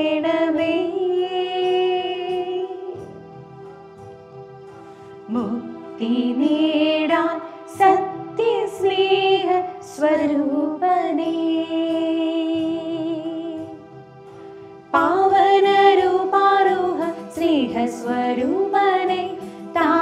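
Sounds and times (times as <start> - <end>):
woman singing a hymn: 0.0 - 3.1, 5.3 - 13.8, 15.0 - 20.0.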